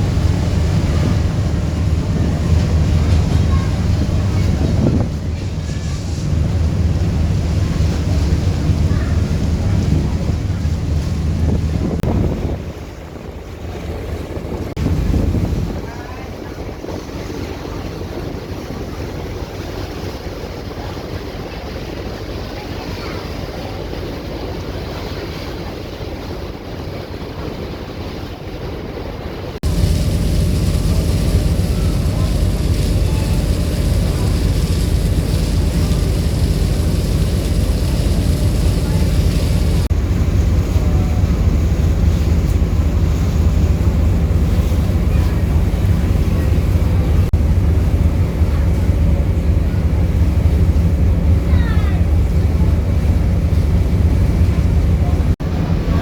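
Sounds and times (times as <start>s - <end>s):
wind buffeting microphone: 0.0s - 22.4s, 26.0s - 56.0s
ferry engine rumble: 0.0s - 56.0s
water moving past boat: 0.0s - 56.0s.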